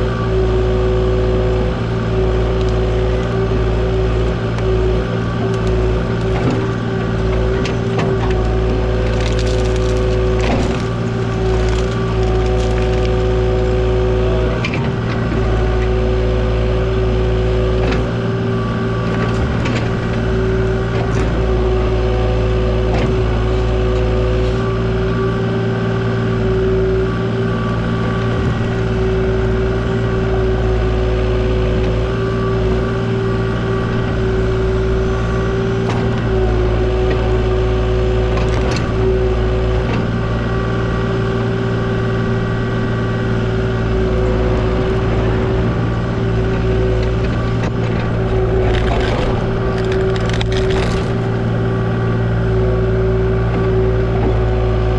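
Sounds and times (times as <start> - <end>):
diesel engine running: 0.0 - 54.9
hydraulic whine: 0.0 - 54.9.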